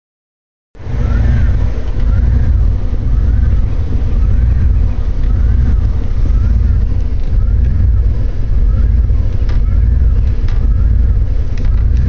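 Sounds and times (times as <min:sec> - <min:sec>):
car engine idling roughly: 0:00.8 - 0:12.0
faint whine: 0:00.8 - 0:12.0.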